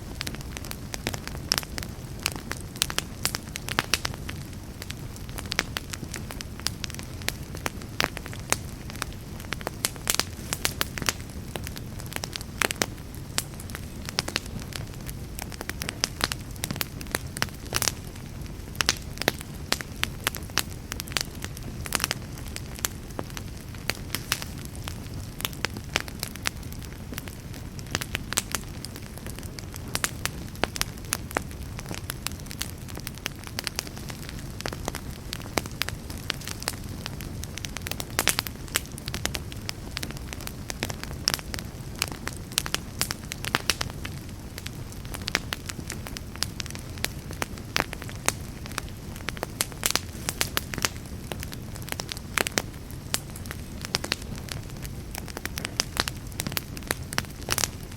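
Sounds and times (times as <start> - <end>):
low rumble of flames: 0.0 - 57.9
wood fire crackling and popping: 0.0 - 57.9.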